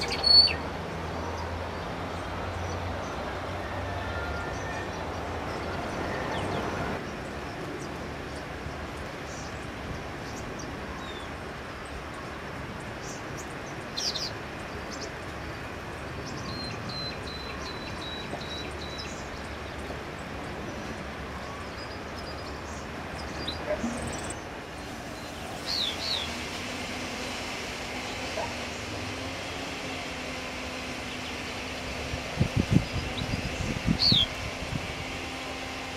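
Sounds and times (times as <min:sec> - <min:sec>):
small birds chirping: 0:00.0 - 0:03.3, 0:04.5 - 0:26.4, 0:30.6 - 0:34.8.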